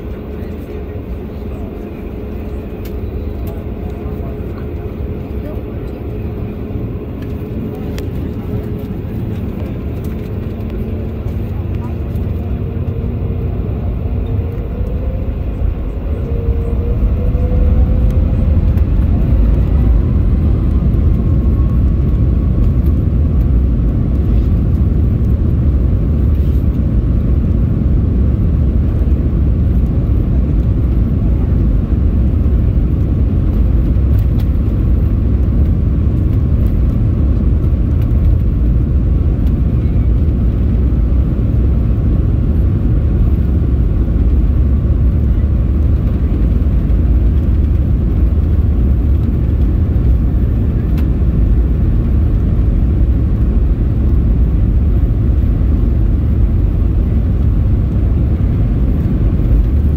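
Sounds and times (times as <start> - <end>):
loud jet engine rumble: 0.0 - 59.9.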